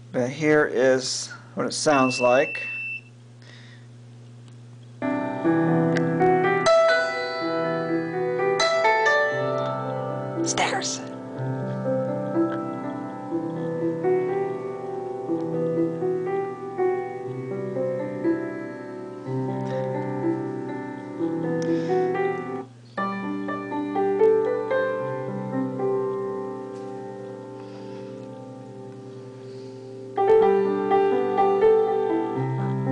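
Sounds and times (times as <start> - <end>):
piano music through speaker: 0.1 - 3.0, 5.0 - 32.9.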